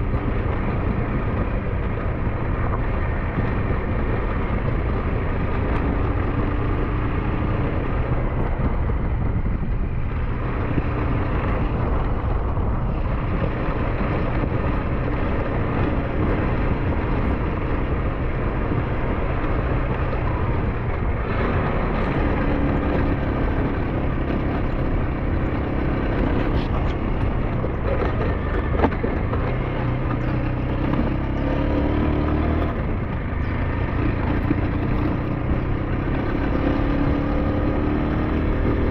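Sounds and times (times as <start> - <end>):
constant rushing noise: 0.0 - 38.9
motorcycle engine running: 0.0 - 38.9.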